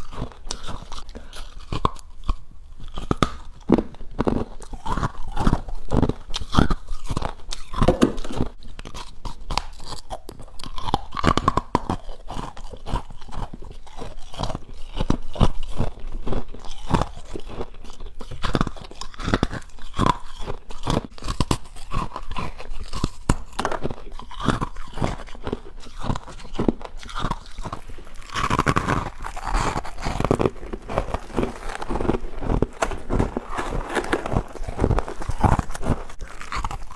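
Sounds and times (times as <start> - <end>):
person chewing frost crunches: 0.0 - 36.9.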